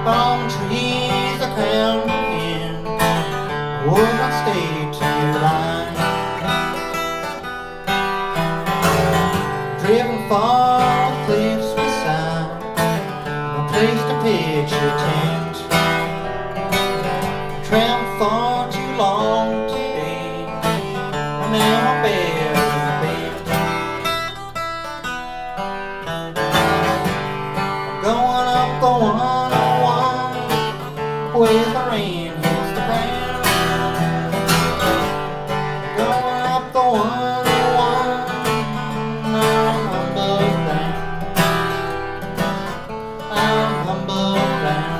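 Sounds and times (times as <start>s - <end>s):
acoustic guitar: 0.0s - 44.9s.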